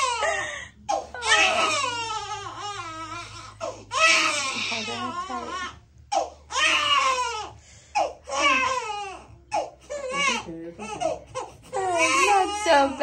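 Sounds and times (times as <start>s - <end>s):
baby crying: 0.0s - 13.0s.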